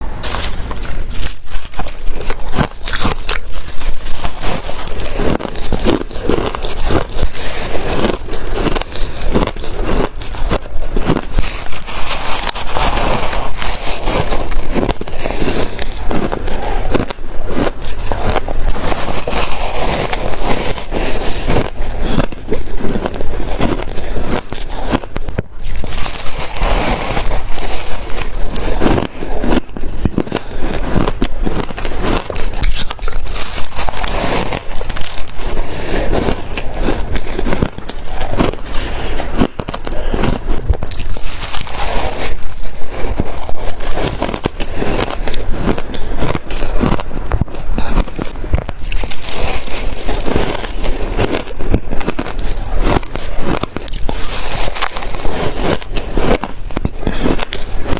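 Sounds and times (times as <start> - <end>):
crunching shaved ice: 0.0 - 57.9.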